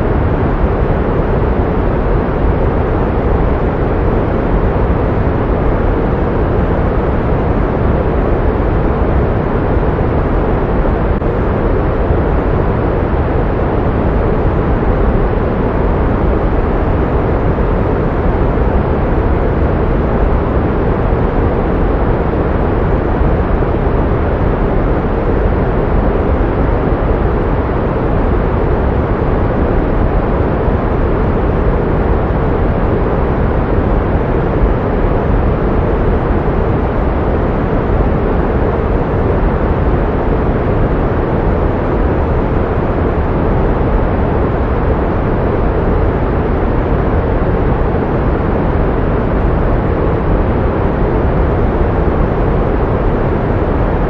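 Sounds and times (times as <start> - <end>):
pink noise rushing: 0.0 - 54.0.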